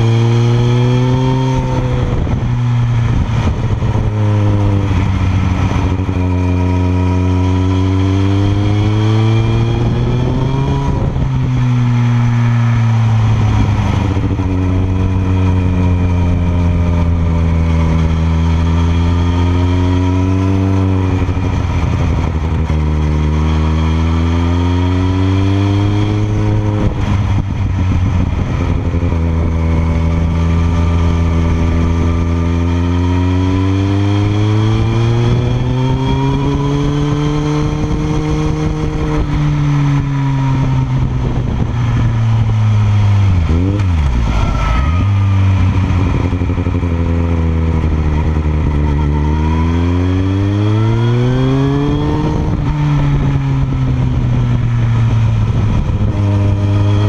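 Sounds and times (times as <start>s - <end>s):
motorcycle exhaust note: 0.0s - 57.0s.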